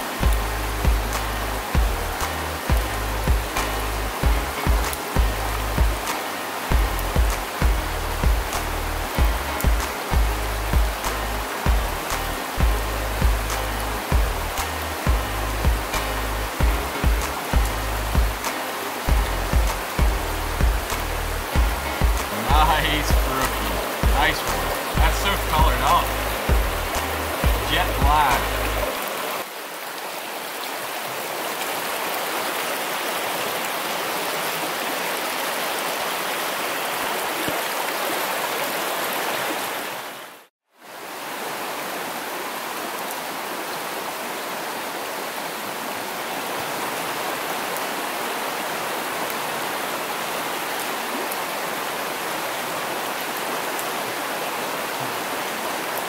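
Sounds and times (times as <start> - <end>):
mountain stream rushing over rocks: 0.0 - 56.0.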